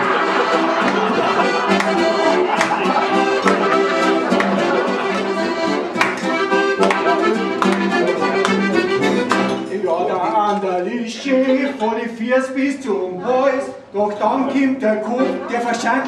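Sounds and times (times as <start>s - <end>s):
live folk band music: 0.0s - 16.0s.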